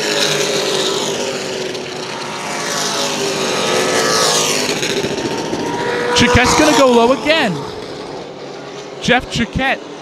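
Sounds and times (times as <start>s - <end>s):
race car engines running hard: 0.0s - 10.0s.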